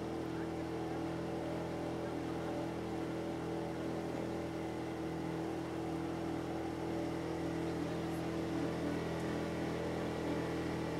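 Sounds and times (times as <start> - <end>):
motorboat engine humming: 0.0 - 10.9.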